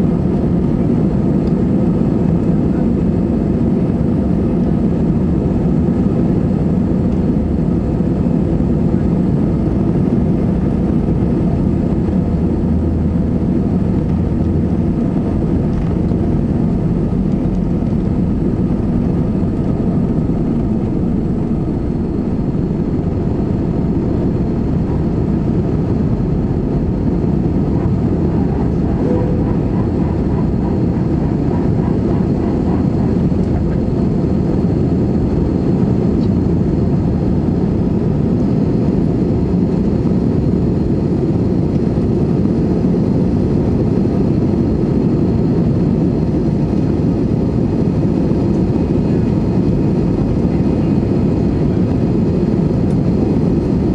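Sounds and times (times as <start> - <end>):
jet engine and airflow noise: 0.0 - 53.9.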